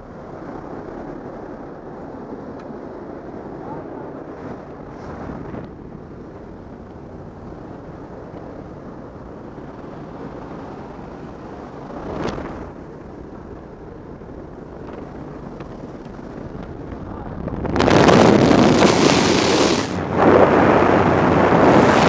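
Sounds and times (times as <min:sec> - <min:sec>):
aircraft engine noise: 0:00.0 - 0:22.0
rush of wind: 0:00.0 - 0:22.0.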